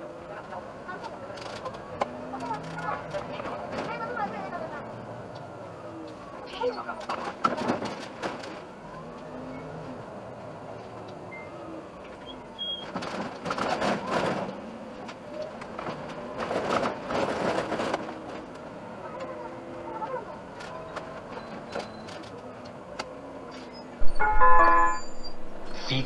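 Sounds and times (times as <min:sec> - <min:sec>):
bus engine and tyres running: 0:00.0 - 0:26.0.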